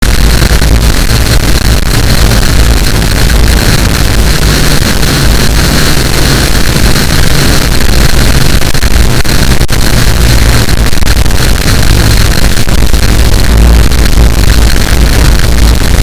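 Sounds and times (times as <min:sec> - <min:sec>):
harsh distorted noise: 0:00.0 - 0:16.0
low drone: 0:00.0 - 0:16.0.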